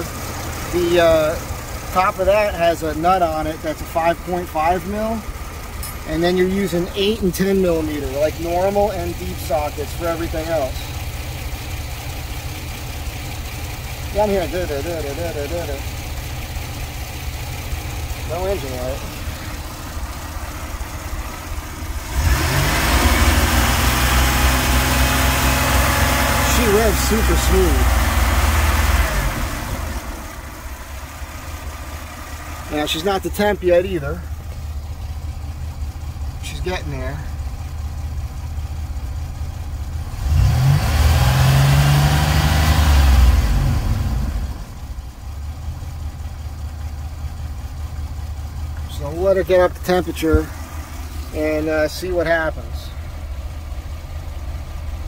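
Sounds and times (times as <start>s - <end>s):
van engine idling and revving: 0.0s - 55.0s.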